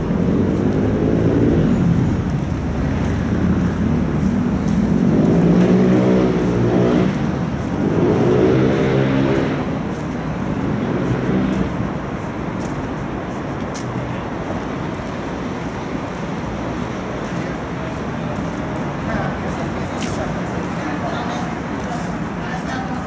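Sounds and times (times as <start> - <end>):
traffic rumble: 0.0 - 23.0
vehicles passing by: 0.0 - 23.0.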